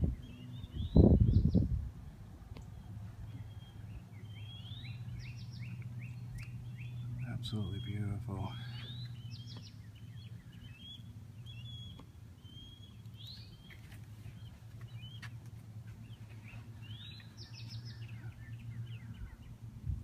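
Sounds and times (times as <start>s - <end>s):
birds chirping and calling: 0.0s - 19.7s
steady low hum: 0.0s - 20.0s.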